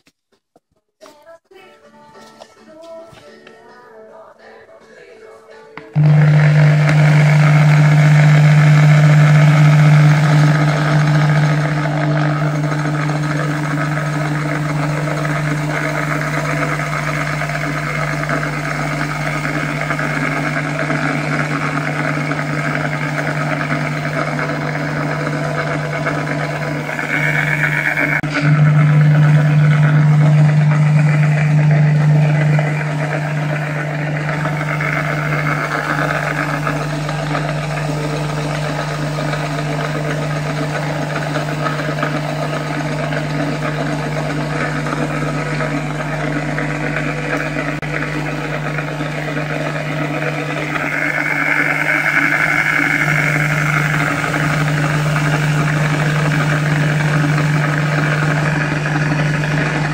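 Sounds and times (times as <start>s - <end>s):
electric drill motor running: 5.9s - 59.9s.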